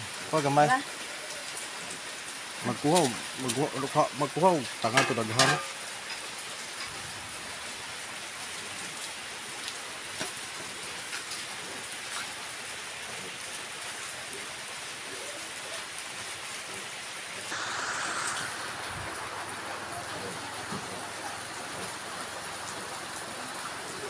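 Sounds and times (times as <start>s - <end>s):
rain patter: 0.0s - 24.0s.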